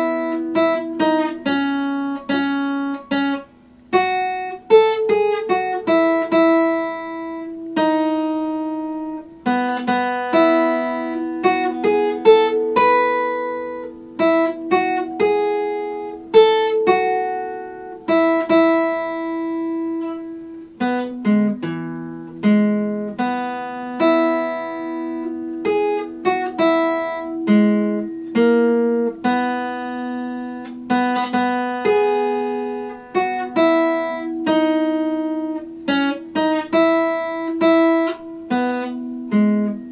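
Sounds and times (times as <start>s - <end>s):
acoustic guitar melody: 0.0s - 39.9s.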